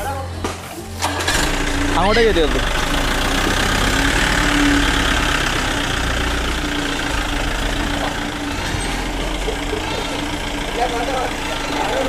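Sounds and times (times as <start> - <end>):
truck engine running at low speed: 1.0 - 12.0.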